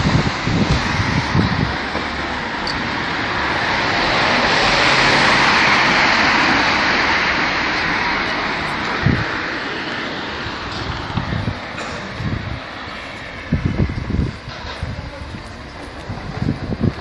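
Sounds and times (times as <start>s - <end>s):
vehicle passing: 0.1s - 16.9s.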